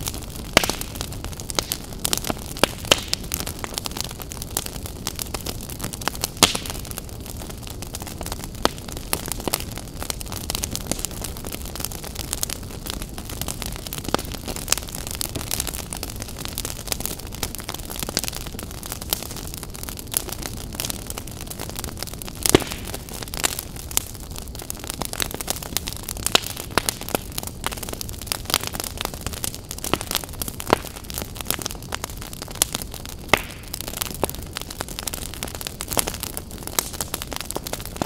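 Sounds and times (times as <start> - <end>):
fire crackling: 0.0 - 38.0
fire popping and snapping: 0.0 - 38.0.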